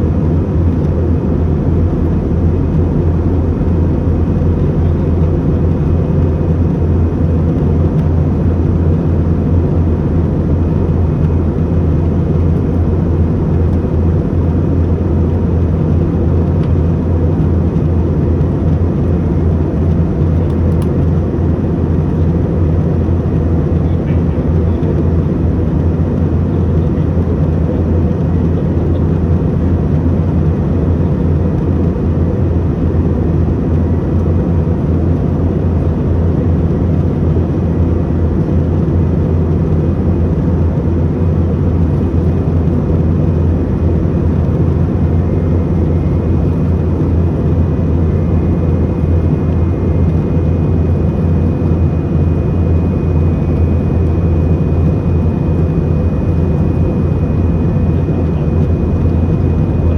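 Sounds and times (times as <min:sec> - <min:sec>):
airliner engine drone: 0:00.0 - 0:59.9.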